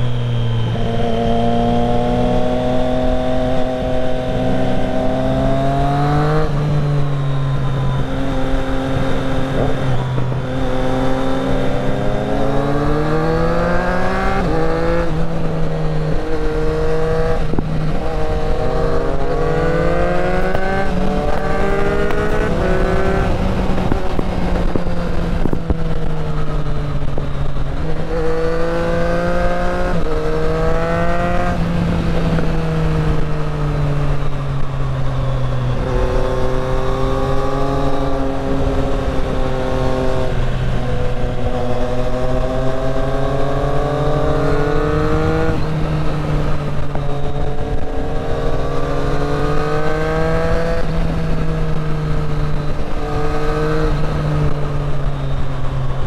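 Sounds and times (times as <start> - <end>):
motorcycle engine accelerating through gears: 0.0 - 56.0.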